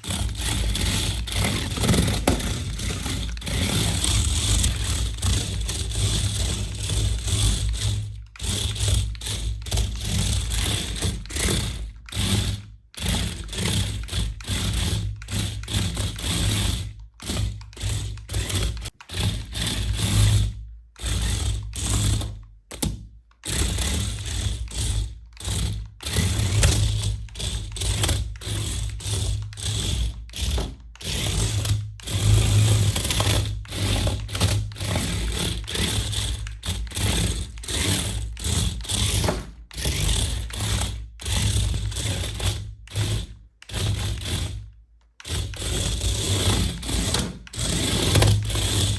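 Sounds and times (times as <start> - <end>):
toy car electric motor: 0.0 - 48.9.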